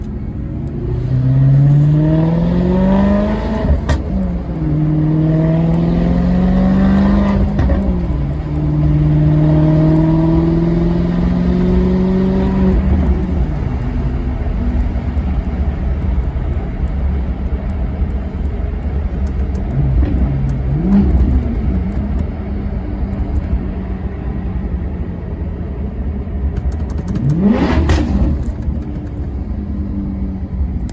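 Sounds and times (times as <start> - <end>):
car engine accelerating and revving: 0.0 - 30.9.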